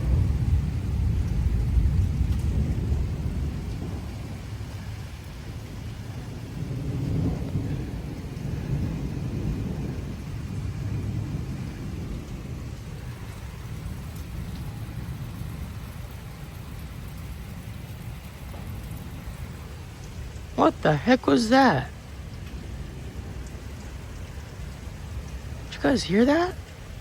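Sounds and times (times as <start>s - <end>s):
gusty wind: 0.0s - 27.0s
rain: 0.0s - 27.0s
thunder rolling: 0.0s - 27.0s.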